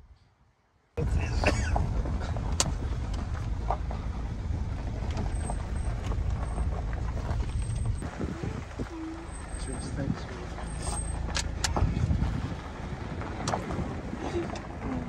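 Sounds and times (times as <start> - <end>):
car engine rumble: 1.0 - 15.0
tyre and wind noise: 1.0 - 15.0.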